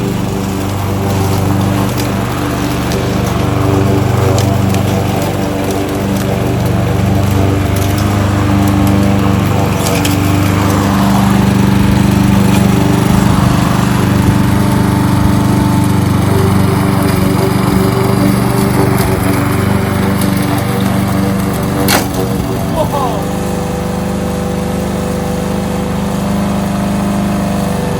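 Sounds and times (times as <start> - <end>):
lawn mower engine running: 0.0 - 27.9.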